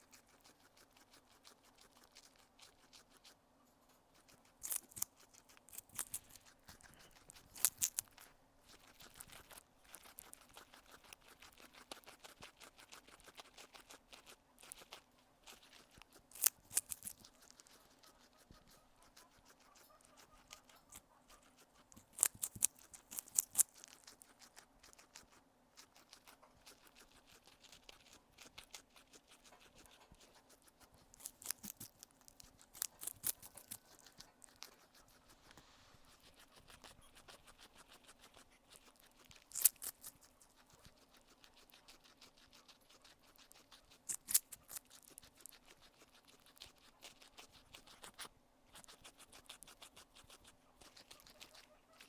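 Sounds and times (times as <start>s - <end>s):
guinea pig chewing food: 0.0s - 52.0s.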